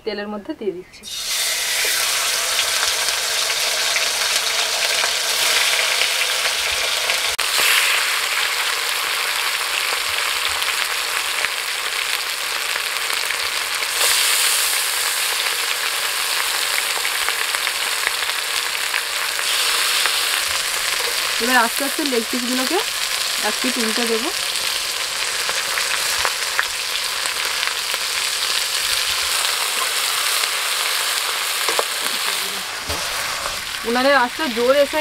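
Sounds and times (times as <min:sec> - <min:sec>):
chicken sizzling in oil: 0:01.0 - 0:35.0.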